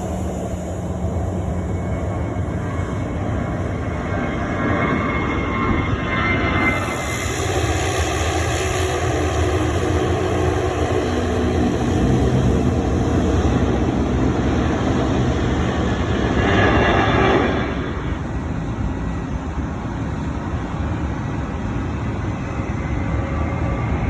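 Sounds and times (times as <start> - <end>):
faint hum: 0.0 - 24.0
jet airliner engine noise: 0.0 - 24.0.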